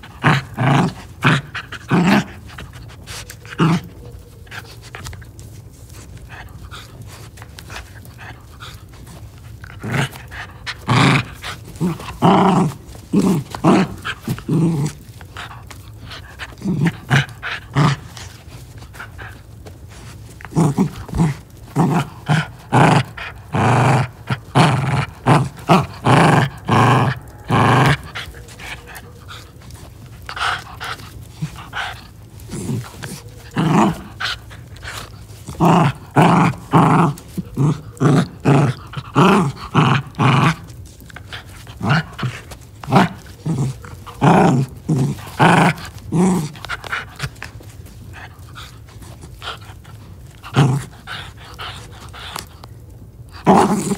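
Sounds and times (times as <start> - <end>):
puppy play-growling: 0.0 - 53.9.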